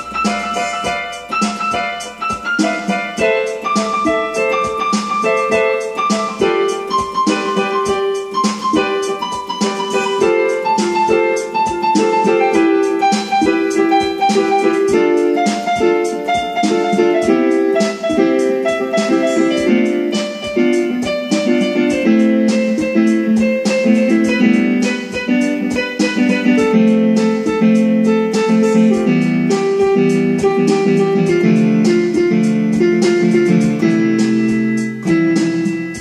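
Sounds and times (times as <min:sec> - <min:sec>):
instrumental background music: 0:00.0 - 0:36.0.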